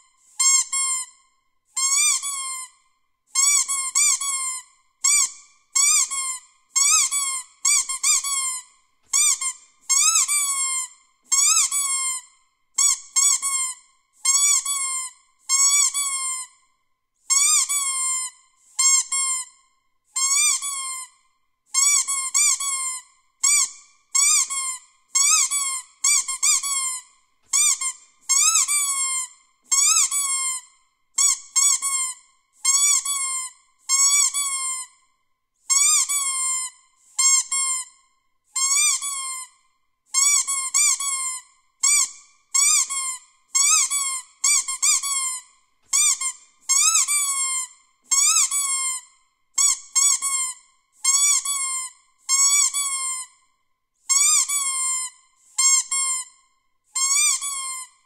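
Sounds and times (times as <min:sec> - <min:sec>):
squeaky dog toy squeaks: 0:00.3 - 0:16.6, 0:17.3 - 0:35.0, 0:35.7 - 0:53.4, 0:54.0 - 0:58.0.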